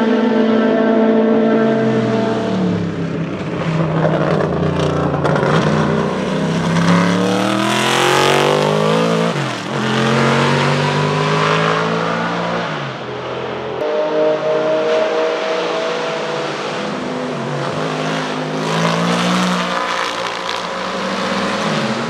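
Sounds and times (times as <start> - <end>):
racing car engine: 0.0 - 22.0.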